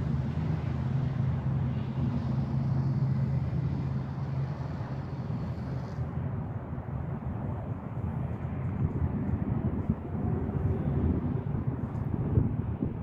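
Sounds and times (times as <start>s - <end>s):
rumbling background noise: 0.0s - 13.0s
steady low hum: 0.0s - 13.0s.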